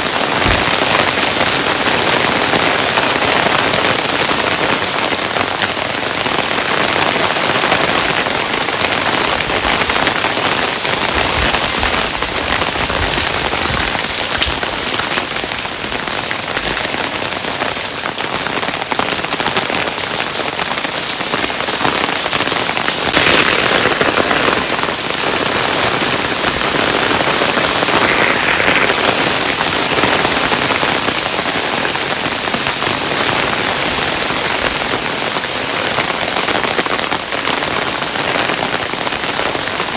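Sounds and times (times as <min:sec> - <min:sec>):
hailstones pattering on hard surface: 0:00.0 - 0:39.9.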